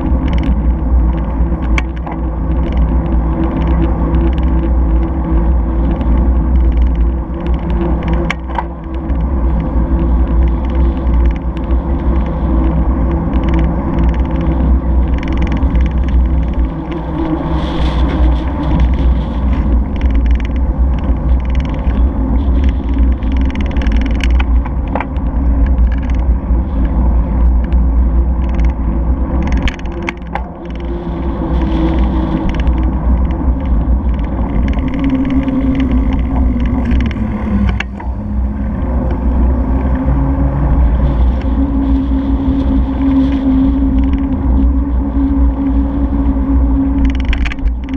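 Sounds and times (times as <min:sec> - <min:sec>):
car traffic: 0:00.0 - 0:44.8
wind buffeting microphone: 0:00.0 - 0:47.9.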